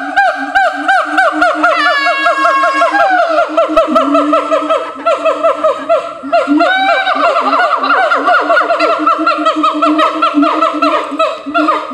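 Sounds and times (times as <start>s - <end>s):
apes hooting chorus: 0.0s - 11.9s.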